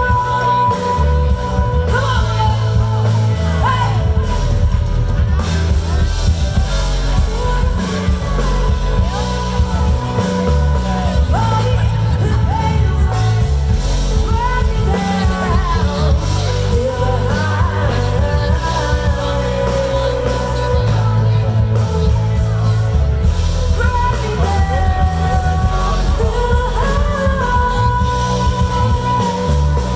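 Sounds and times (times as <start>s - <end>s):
heavy bass line: 0.0s - 29.9s
live band with singer: 0.0s - 29.9s.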